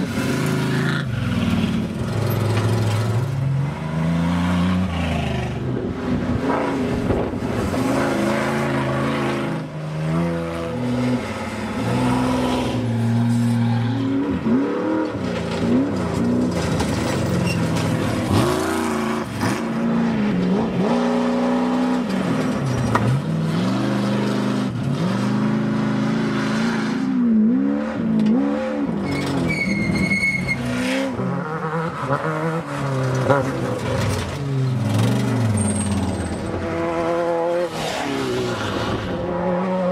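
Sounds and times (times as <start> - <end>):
racing engines revving: 0.0 - 39.9.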